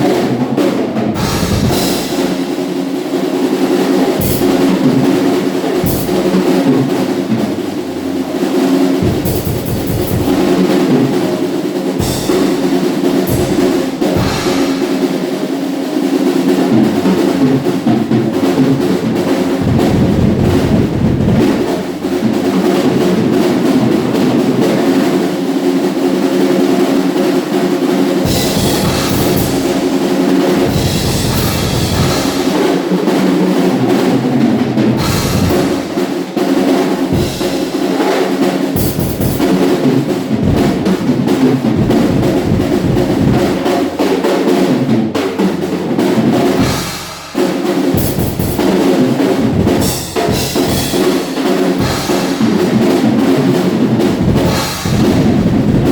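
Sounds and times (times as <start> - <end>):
acoustic drum kit playing: 0.0 - 55.9.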